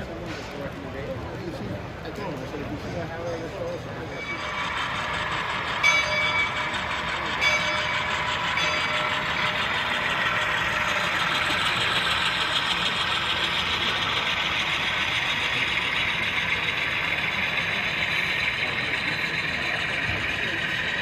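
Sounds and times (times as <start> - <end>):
model train running: 0.0 - 21.0.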